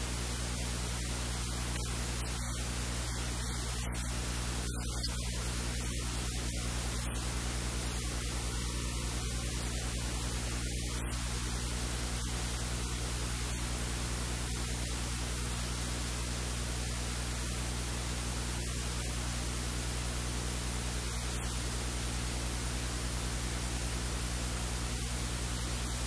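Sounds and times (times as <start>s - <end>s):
low electrical hum: 0.0s - 26.0s
steady hiss: 0.0s - 26.0s.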